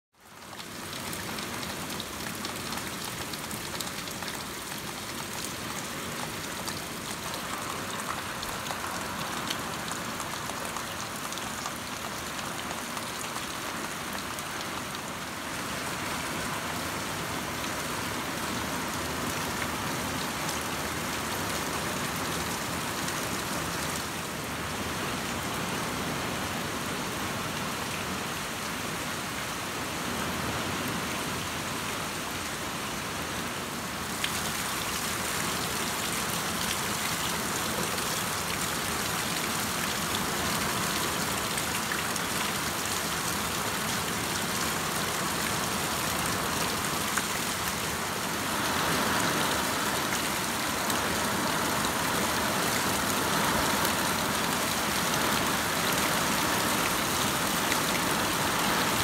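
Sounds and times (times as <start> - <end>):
rain on trees and lawn: 0.1 - 59.0.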